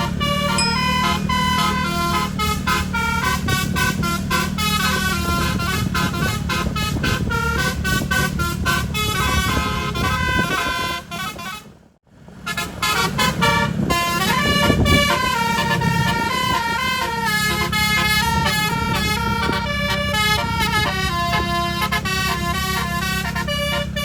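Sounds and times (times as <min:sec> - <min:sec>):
air horn melody: 0:00.0 - 0:11.6, 0:12.5 - 0:24.0
low engine rumble: 0:00.0 - 0:24.0.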